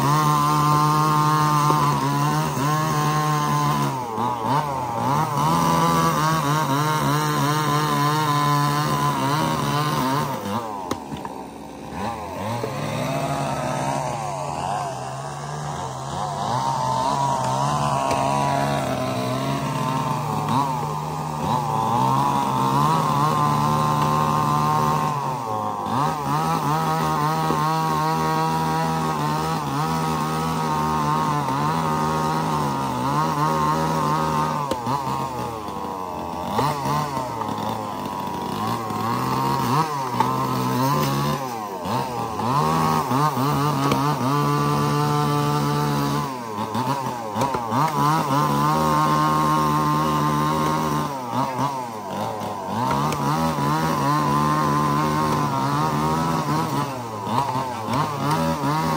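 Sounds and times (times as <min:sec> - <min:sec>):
chainsaw cutting logs: 0:00.0 - 0:58.9.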